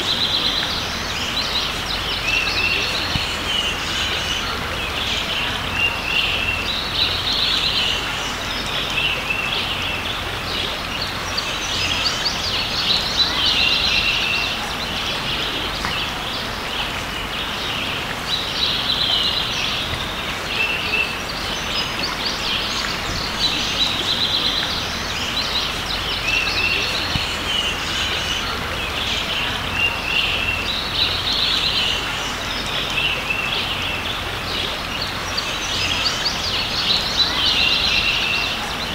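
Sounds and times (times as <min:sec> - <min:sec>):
creek water running: 0:00.0 - 0:38.9
songbird singing chirpy phrases: 0:00.0 - 0:38.9.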